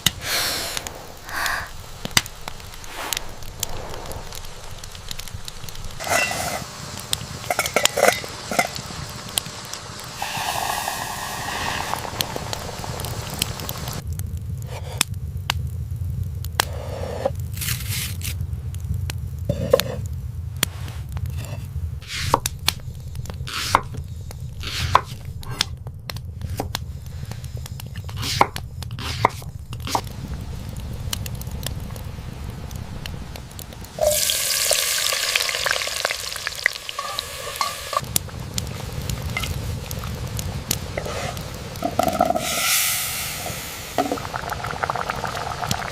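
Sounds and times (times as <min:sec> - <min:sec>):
steady low rumble: 0:00.0 - 0:17.5, 0:18.3 - 0:34.7, 0:35.3 - 0:45.9.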